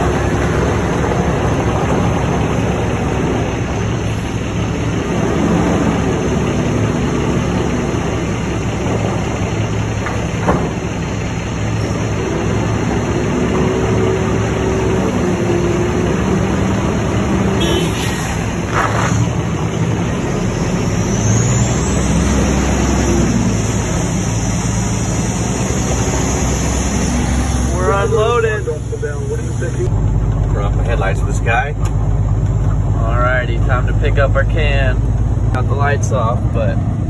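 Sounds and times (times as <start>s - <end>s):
heavy diesel engines running: 0.0s - 37.0s.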